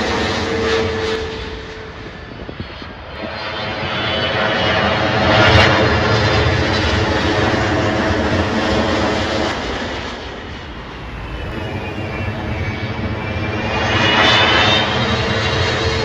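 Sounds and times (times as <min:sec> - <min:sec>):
airliner engine whine and whistle: 0:00.0 - 0:16.0
jet engine noise: 0:00.0 - 0:16.0.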